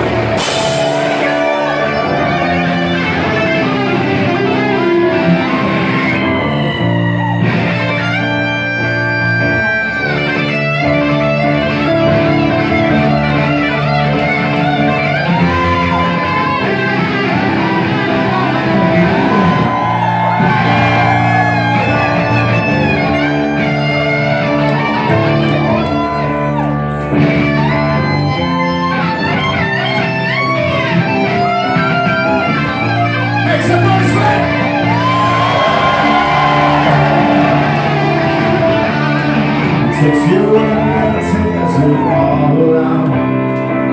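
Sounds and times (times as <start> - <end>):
bass guitar: 0.0 - 43.9
electric guitar bending notes: 0.0 - 43.9.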